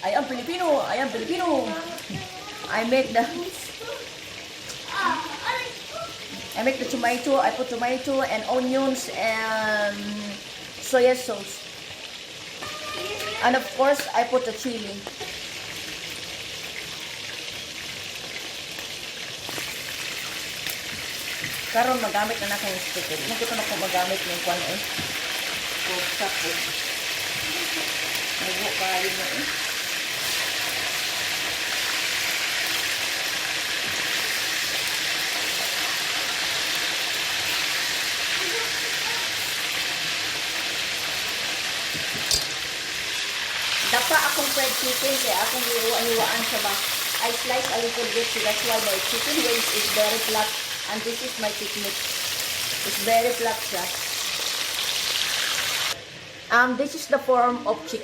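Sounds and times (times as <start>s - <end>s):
chicken frying in oil: 0.0s - 56.0s
sauce sizzling in a pan: 0.0s - 58.0s.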